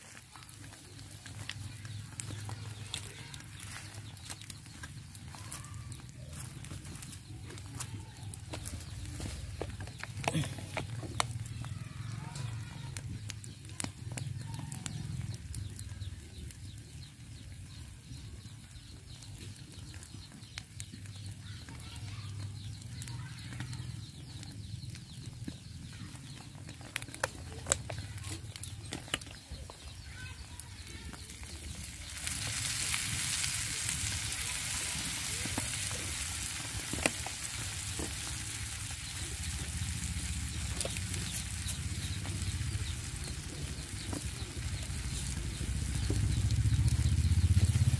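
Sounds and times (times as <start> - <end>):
eggs sizzling in a frying pan: 0.0 - 47.9.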